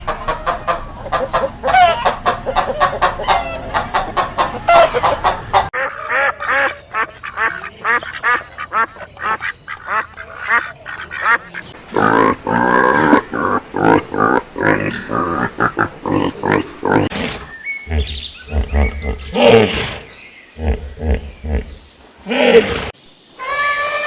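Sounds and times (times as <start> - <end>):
poultry calling: 0.0 - 20.0.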